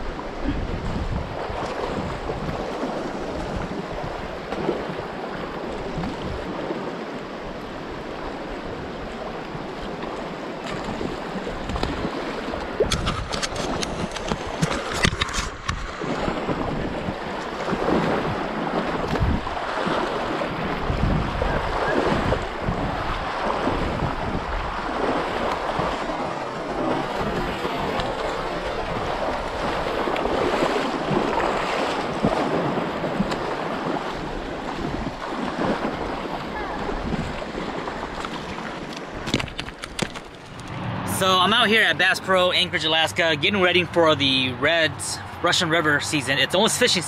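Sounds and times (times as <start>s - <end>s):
river water rushing over rocks: 0.0s - 42.5s
wind buffeting microphone: 0.0s - 42.5s.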